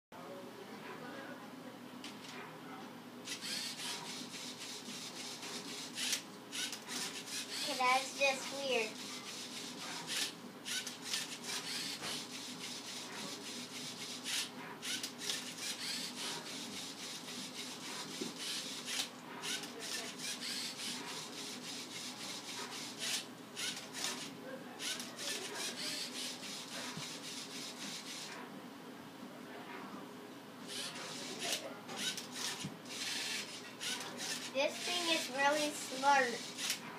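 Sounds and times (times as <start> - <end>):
servo motors whirring: 3.3 - 28.3, 30.6 - 36.8.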